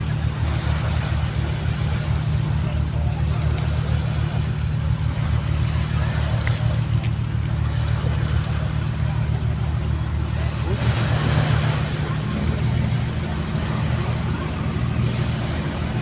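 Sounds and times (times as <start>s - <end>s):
ship diesel engines droning: 0.0s - 16.0s.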